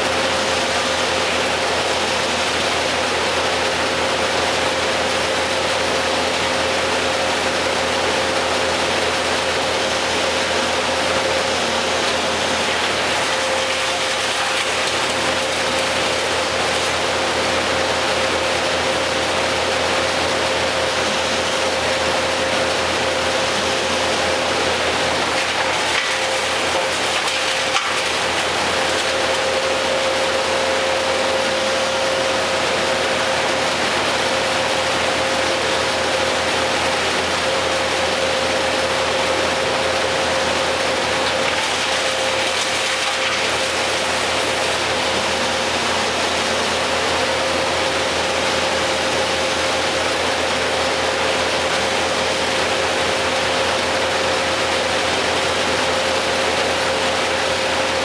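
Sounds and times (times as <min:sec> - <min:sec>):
machinery whining steadily: 0:00.0 - 0:58.0.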